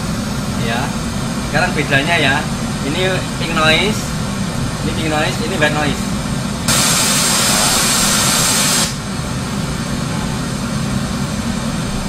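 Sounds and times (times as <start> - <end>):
pink noise hiss: 0.0 - 12.0
white noise: 0.0 - 12.0.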